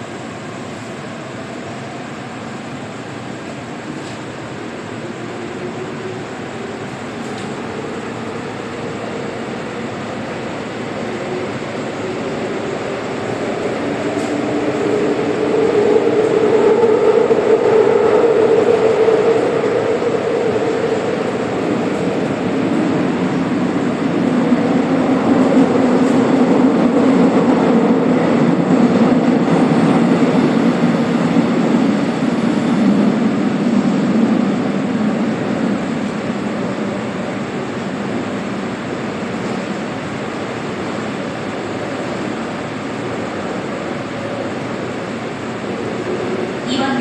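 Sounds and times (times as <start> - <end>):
wheels rumbling on rail: 0.0 - 47.0.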